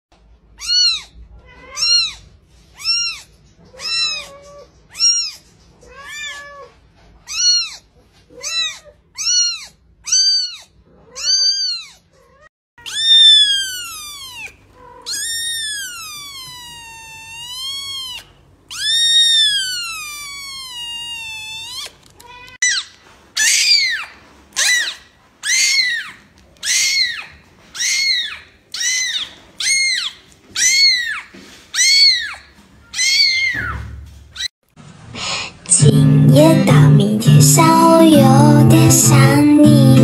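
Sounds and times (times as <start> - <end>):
kittens meowing: 0.6 - 22.8, 23.4 - 33.8.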